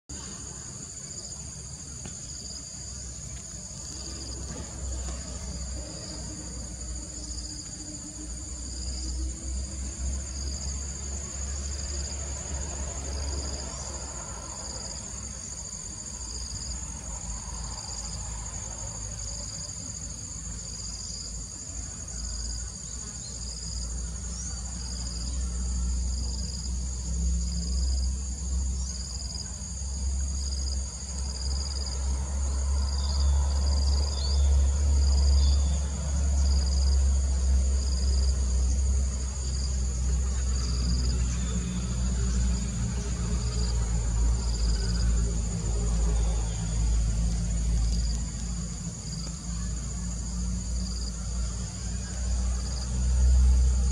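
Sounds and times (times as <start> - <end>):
insect high steady buzz: 0.1 - 53.9
insect pulsing trill: 0.1 - 53.9.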